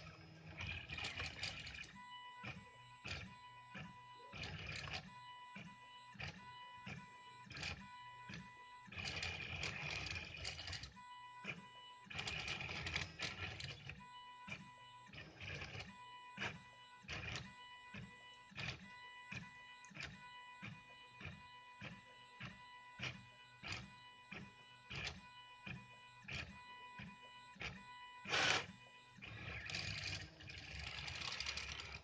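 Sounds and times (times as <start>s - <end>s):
printer motors whirring: 0.0s - 32.0s.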